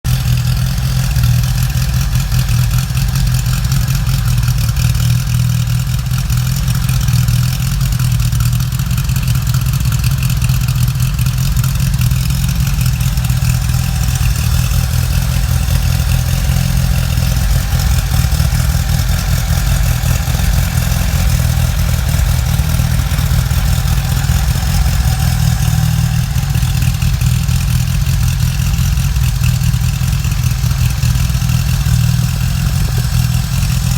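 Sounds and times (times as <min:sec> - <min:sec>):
car engine running steadily: 0:00.0 - 0:33.9.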